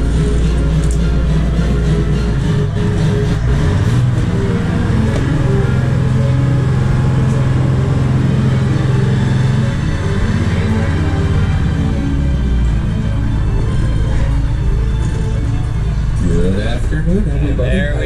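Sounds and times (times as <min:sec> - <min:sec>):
boat engines humming: 0:00.0 - 0:18.0.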